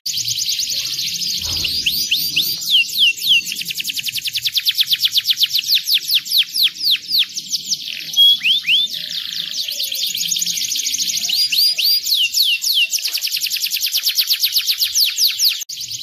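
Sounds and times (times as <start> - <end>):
canary singing: 0.1 - 16.0.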